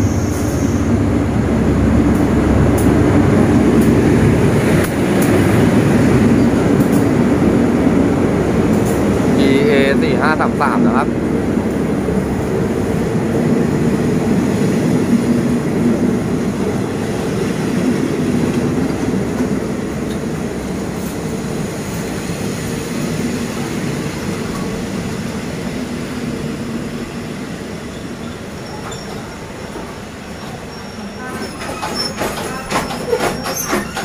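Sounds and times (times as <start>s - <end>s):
diesel train rolling with low drone: 0.0s - 34.0s.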